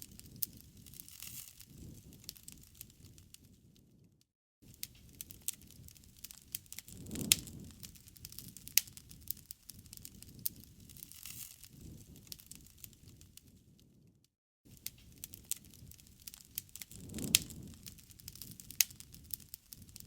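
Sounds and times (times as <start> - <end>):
campfire crackling and popping: 0.0 - 14.1, 14.7 - 20.0
low rumble of flames: 0.0 - 20.0.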